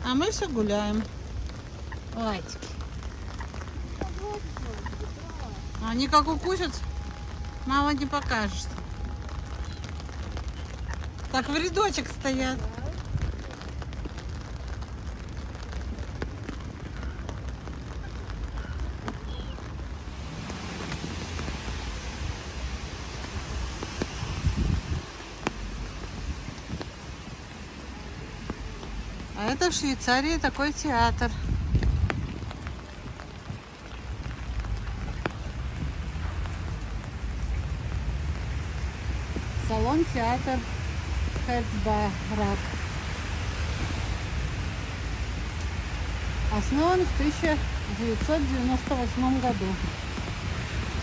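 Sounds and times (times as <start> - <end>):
close raindrop ticks: 0.0 - 51.0
steady rain on water: 0.0 - 51.0.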